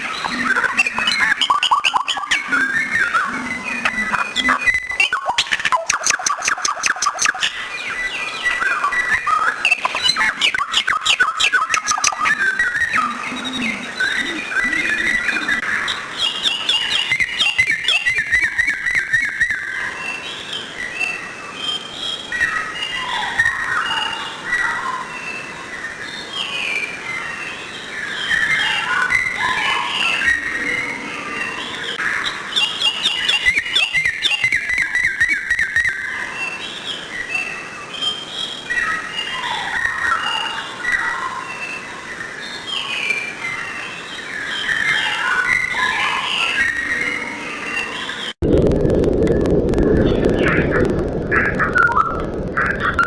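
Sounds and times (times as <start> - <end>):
songbirds singing: 0.0 - 48.4.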